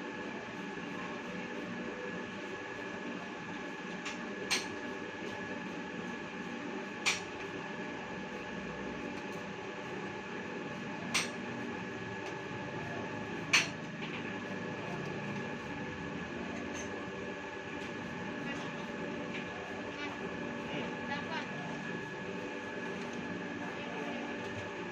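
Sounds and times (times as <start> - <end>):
pipe threading machine humming and whining: 0.0 - 24.9.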